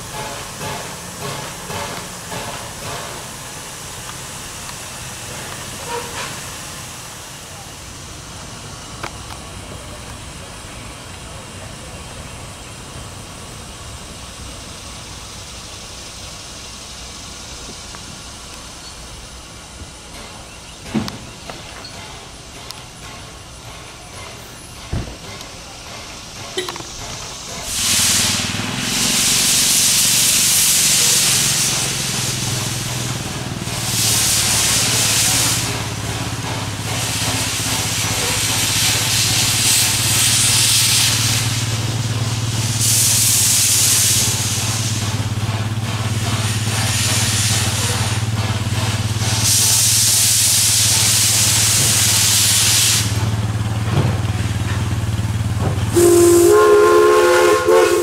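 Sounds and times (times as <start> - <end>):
steam locomotive venting steam: 0.0 - 58.0.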